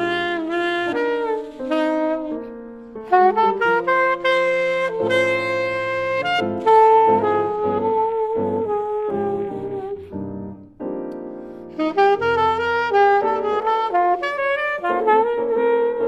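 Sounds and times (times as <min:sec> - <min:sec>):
piano: 0:00.0 - 0:16.0
saxophone melody: 0:00.0 - 0:16.0.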